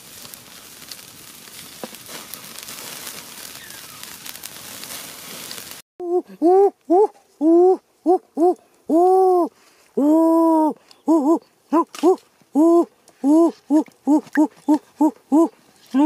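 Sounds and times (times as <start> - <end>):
wood fire crackling and hissing: 0.0 - 5.8, 6.8 - 16.0.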